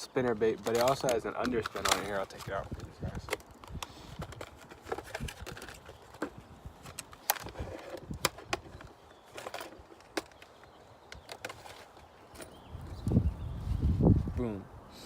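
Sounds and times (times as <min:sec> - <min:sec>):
packaging clicks and crinkles: 0:00.1 - 0:12.2.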